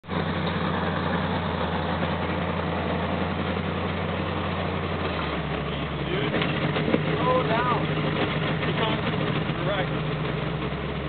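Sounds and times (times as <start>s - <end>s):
truck engine near idle: 0.0s - 11.0s.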